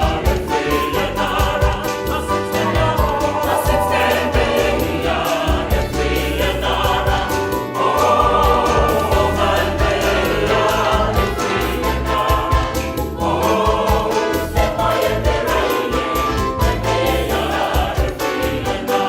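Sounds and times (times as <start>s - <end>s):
gospel choir singing: 0.0s - 19.0s.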